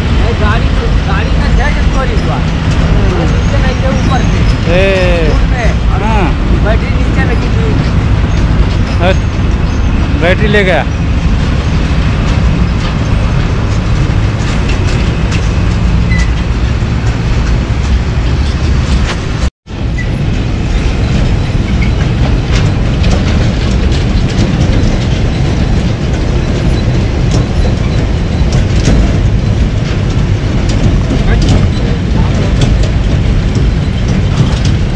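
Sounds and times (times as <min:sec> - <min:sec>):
heavy trucks rumbling: 0:00.0 - 0:34.9
rattling and crunching: 0:00.0 - 0:34.9.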